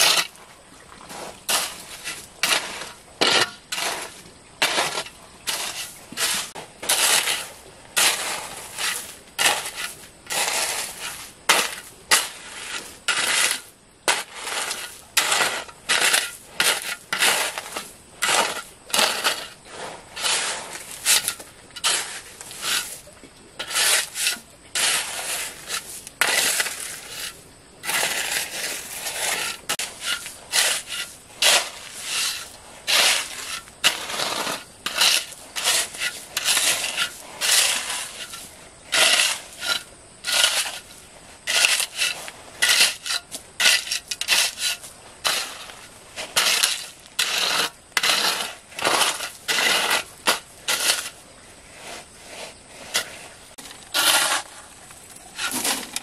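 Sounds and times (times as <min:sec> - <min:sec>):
hoe scraping gravelly sand: 0:00.0 - 0:56.0.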